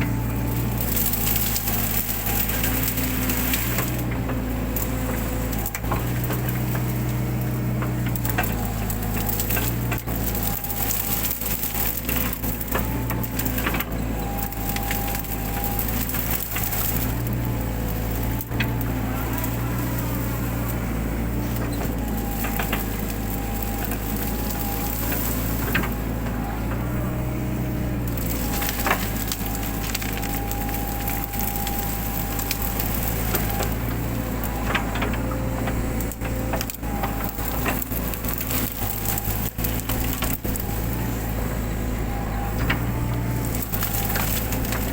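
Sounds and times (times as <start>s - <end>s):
brushwood snapping and cracking: 0.0s - 44.9s
excavator engine humming: 0.0s - 44.9s
hydraulics whining: 0.0s - 44.9s.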